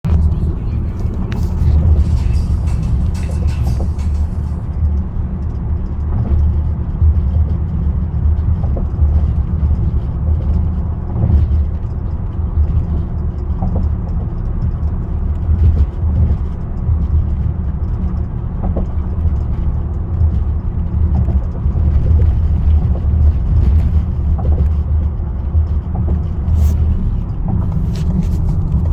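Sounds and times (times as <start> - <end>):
car low rumble: 0.0 - 28.9.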